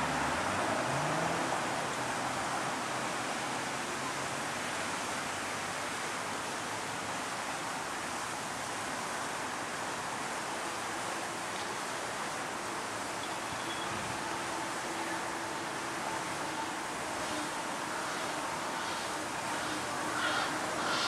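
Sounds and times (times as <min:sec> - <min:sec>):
street background hiss: 0:00.0 - 0:21.0.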